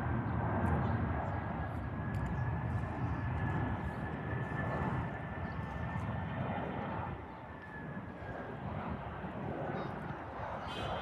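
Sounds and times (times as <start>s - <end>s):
jet engines in flight: 0.0s - 11.0s.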